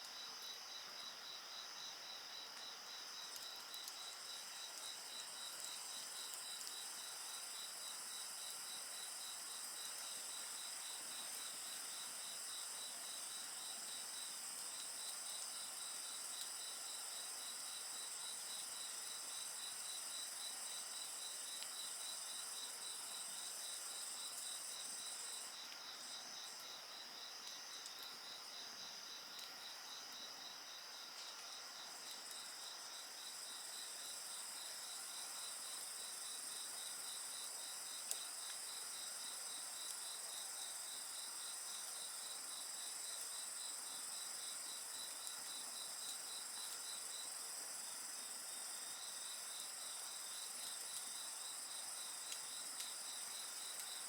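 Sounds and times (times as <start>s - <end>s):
high continuous insect trill: 0.0s - 54.0s.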